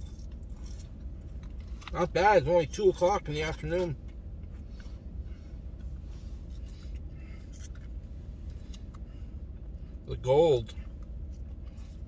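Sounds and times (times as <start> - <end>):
low rumble inside vehicle: 0.0 - 12.0.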